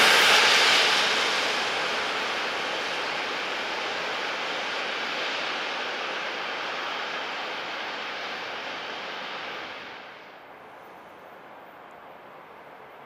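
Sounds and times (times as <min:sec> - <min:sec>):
freight train wheels rolling on rails: 0:00.0 - 0:13.0.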